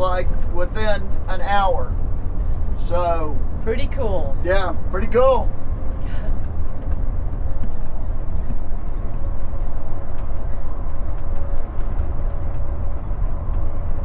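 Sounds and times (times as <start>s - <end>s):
vehicle driving rumble: 0.0s - 14.0s.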